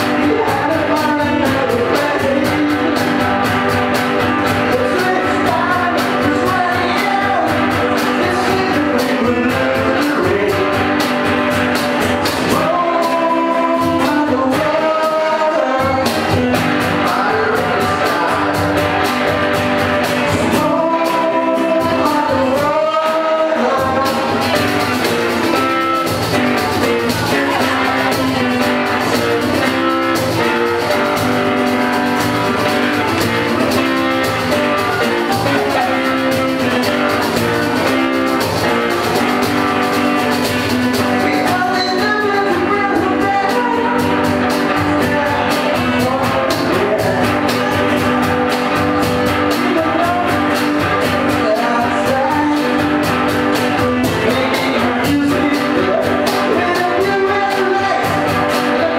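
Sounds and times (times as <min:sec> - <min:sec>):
drum kit: 0:00.0 - 0:58.9
guitar: 0:00.0 - 0:58.9
person singing: 0:00.0 - 0:58.9.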